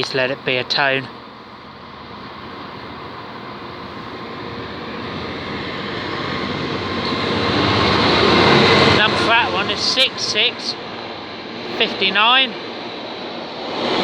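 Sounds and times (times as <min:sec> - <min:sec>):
freight train running: 0:00.0 - 0:14.0.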